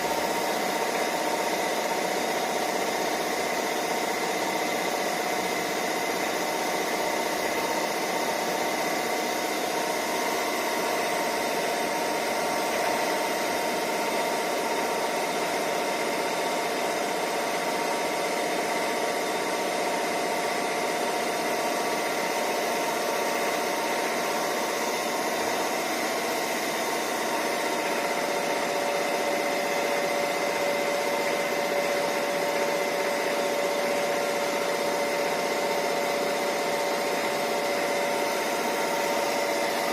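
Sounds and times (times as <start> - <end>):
lathe machine hum: 0.0 - 39.9.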